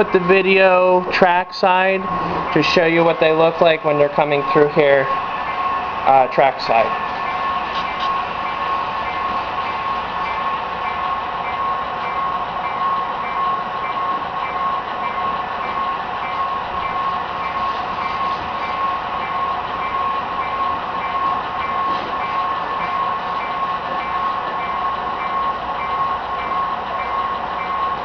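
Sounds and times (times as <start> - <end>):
faint pulsing high tone: 0.0 - 28.0
model trains running with whine: 0.0 - 28.0.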